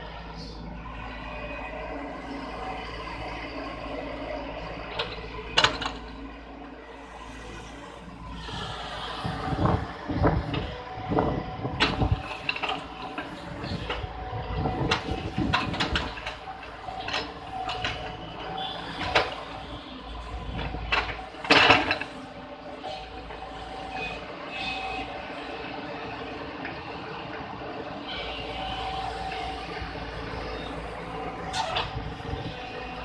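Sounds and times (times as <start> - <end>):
excavator engine and hydraulics: 0.0 - 33.0.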